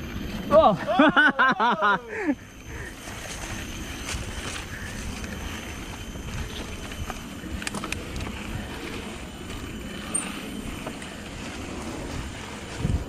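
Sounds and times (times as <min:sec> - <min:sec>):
bike rattling and clicking: 0:00.0 - 0:13.0
bike tyres rumbling on dirt: 0:00.0 - 0:13.0.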